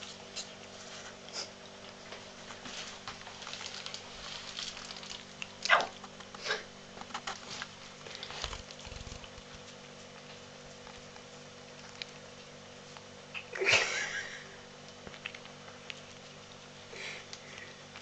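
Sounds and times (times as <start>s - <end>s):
kitten licking and smacking: 0.0s - 18.0s.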